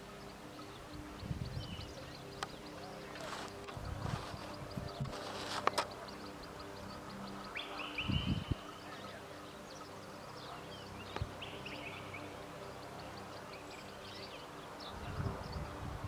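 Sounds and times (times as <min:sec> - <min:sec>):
birds chirping and trilling: 0:00.0 - 0:16.0.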